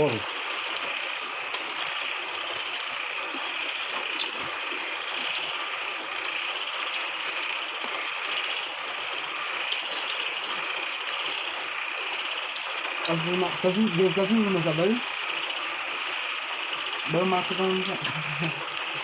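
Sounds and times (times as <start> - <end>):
forest insects buzzing: 0.0 - 19.0.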